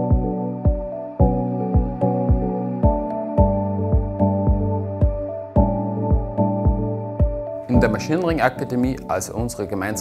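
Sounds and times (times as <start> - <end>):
music with low beat and chords: 0.0 - 10.0.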